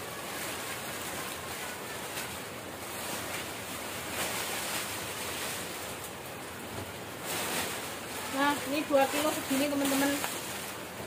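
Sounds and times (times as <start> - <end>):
crackers rustling into plastic bag: 0.0 - 11.0
heavy rain: 0.0 - 11.0.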